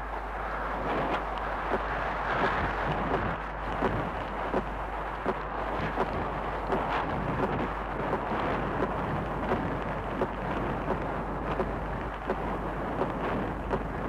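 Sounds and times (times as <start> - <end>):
wind rushing: 0.0 - 14.0.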